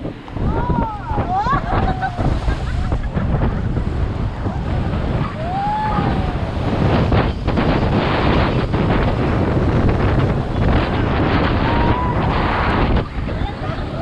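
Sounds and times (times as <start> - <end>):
water rushing and splashing: 0.0 - 14.0
wind buffeting microphone: 0.0 - 14.0.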